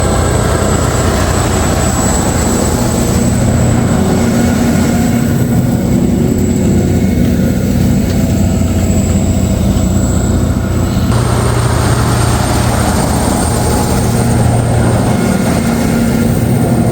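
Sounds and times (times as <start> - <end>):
diesel engine running loud: 0.0 - 16.9.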